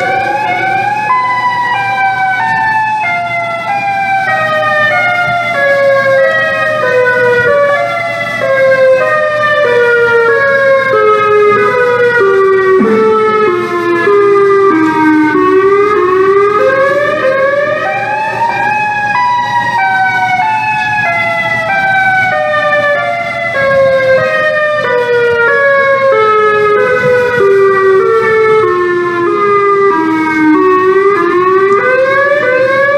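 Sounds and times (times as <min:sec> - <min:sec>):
warning sirens wailing: 0:00.0 - 0:32.9.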